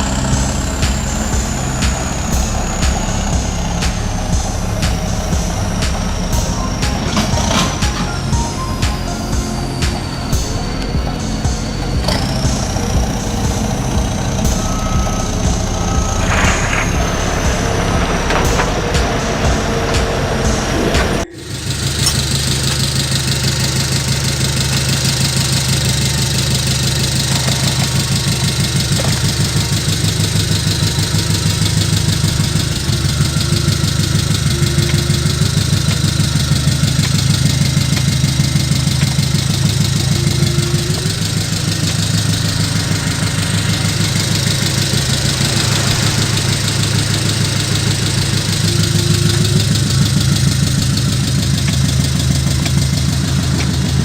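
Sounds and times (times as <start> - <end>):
faint rising whines: 0.0 - 54.0
model truck engine idling: 0.0 - 54.0.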